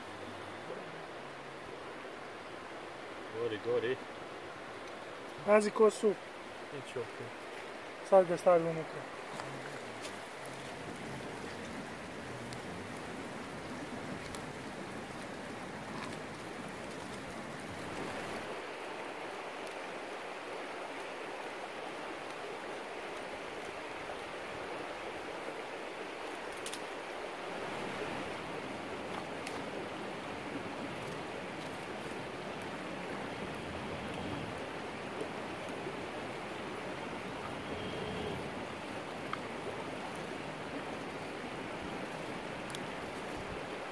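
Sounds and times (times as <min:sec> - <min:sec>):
river flowing over rocks: 0:00.0 - 0:43.9.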